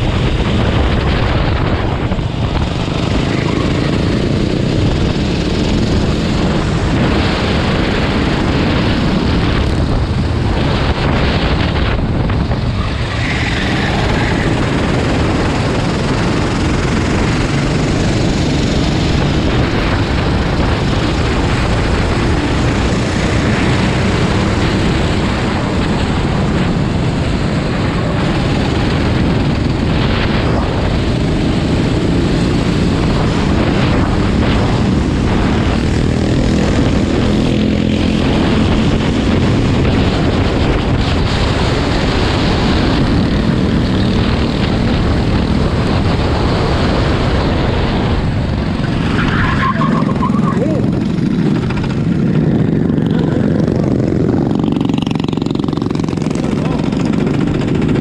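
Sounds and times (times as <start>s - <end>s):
vehicle engines droning: 0.0s - 58.0s.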